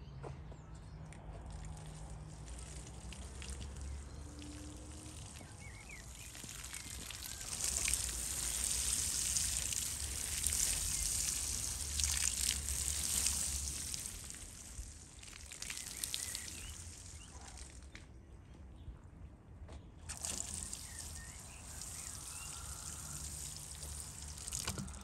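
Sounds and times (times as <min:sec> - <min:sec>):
water sprinkling onto soil: 0:01.4 - 0:18.0, 0:20.1 - 0:25.0.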